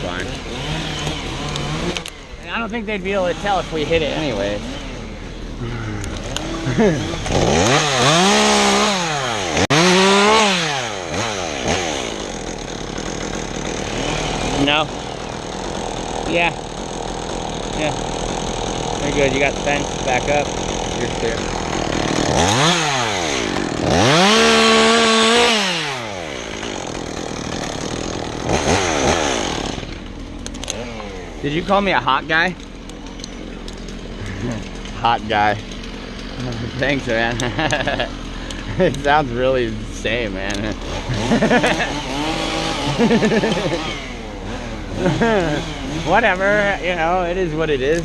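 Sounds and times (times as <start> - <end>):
chainsaw revving: 0.0 - 48.0.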